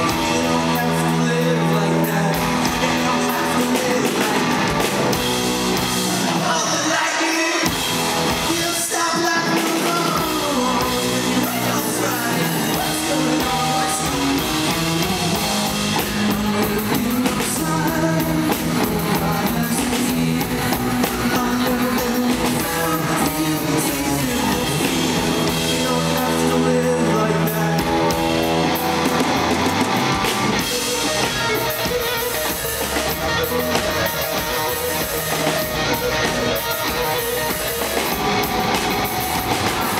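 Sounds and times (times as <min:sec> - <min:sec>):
drum kit with cymbals: 0:00.0 - 0:39.9
electric guitars: 0:00.0 - 0:39.9
lead vocals: 0:00.0 - 0:39.9.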